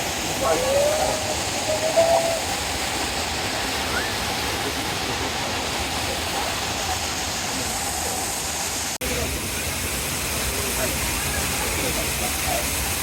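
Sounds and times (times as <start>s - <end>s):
waterfall rushing onto rocks: 0.0s - 13.0s.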